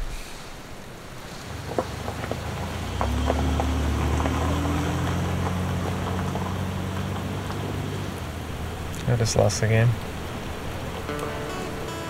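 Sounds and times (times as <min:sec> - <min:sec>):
steady rain: 0:00.0 - 0:12.0
car engine hum: 0:01.7 - 0:12.0.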